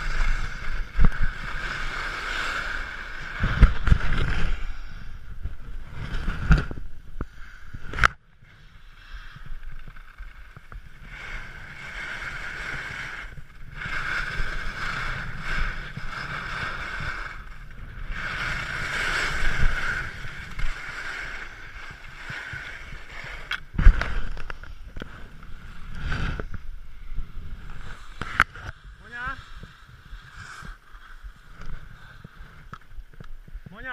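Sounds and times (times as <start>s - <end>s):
skis scraping on packed snow: 0.0s - 7.6s, 8.5s - 33.9s
wind rumbling on microphone: 0.0s - 33.9s.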